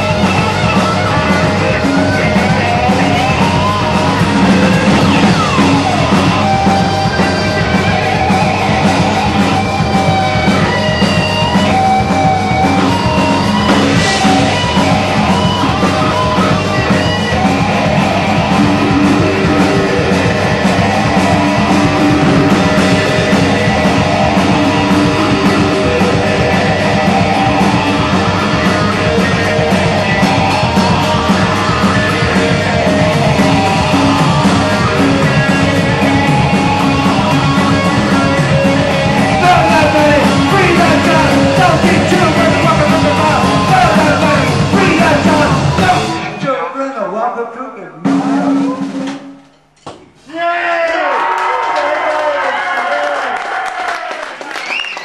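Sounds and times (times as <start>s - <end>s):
guitar sliding swooping notes: 0.0s - 46.5s
rock band playing loudly: 0.0s - 46.6s, 48.0s - 49.8s.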